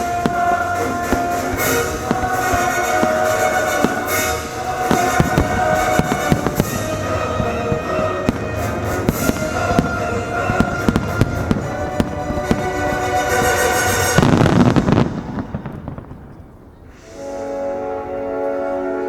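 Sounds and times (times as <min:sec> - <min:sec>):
christmas music: 0:00.0 - 0:15.5, 0:17.0 - 0:19.0
fireworks bangs and crackles: 0:00.0 - 0:17.0.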